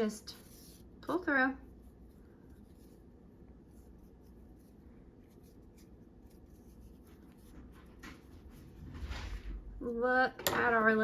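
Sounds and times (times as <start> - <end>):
yarn rustling with crochet hook: 0.0 - 9.9
low room hum: 0.0 - 11.0.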